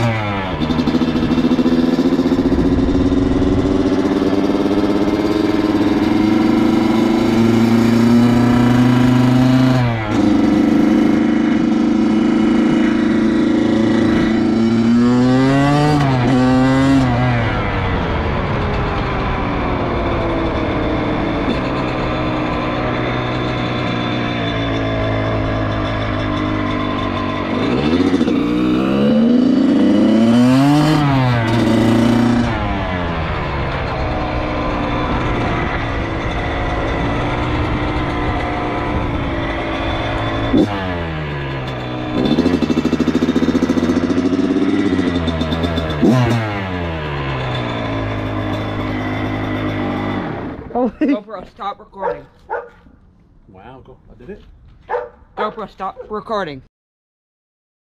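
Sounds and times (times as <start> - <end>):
dirt bike engine revving: 0.0 - 51.2, 54.9 - 55.9.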